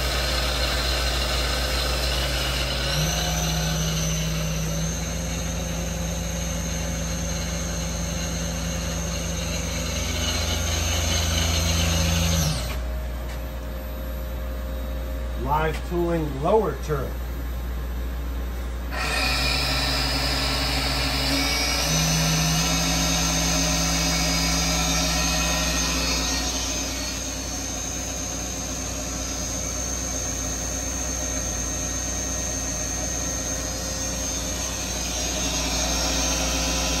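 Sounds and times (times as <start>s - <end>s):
machine high whine: 0.0s - 37.0s
low machine hum: 2.6s - 37.0s.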